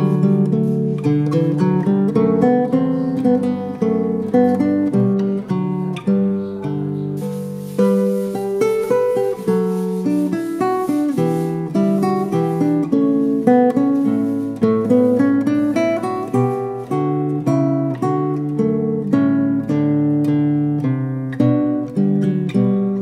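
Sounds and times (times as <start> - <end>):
acoustic guitar melody: 0.0 - 23.0.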